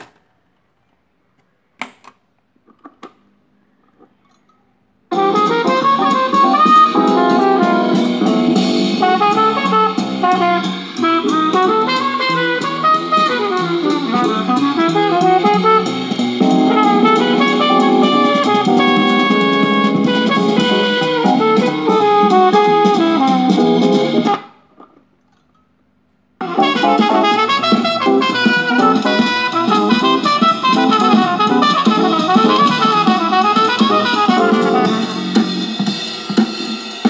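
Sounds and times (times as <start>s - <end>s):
music from record player speaker: 5.1s - 24.9s, 26.4s - 37.0s.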